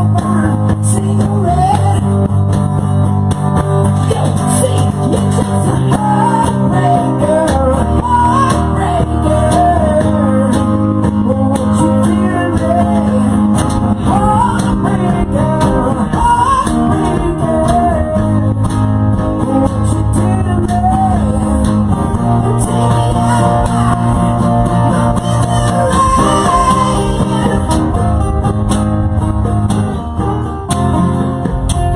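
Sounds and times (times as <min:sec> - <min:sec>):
bass guitar: 0:00.0 - 0:31.9
drums: 0:00.0 - 0:31.9
lead electric guitar: 0:00.0 - 0:31.9.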